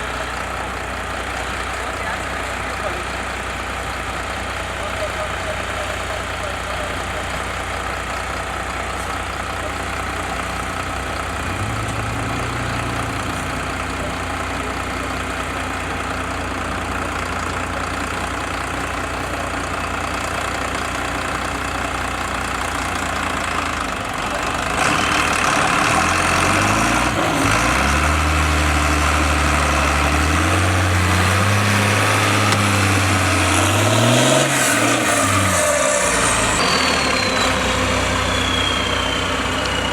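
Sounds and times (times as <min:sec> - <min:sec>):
heavy diesel truck engine revving: 0:00.0 - 0:39.9.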